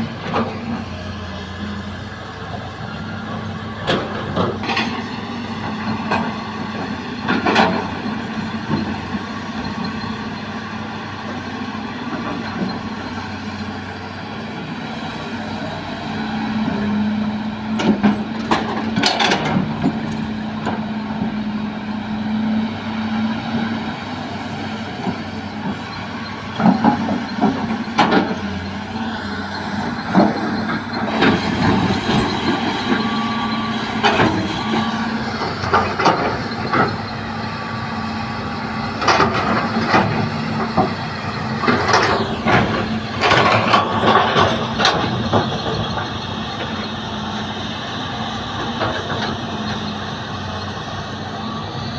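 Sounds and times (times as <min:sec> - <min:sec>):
excavator running: 0:00.0 - 0:51.9.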